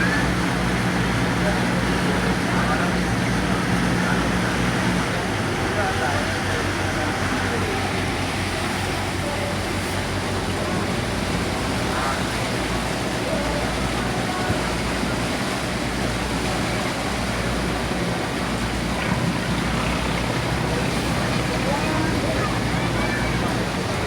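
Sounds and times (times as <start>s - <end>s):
boat engine drone: 0.0s - 24.0s
rushing water: 0.0s - 24.0s
wind: 0.0s - 24.0s.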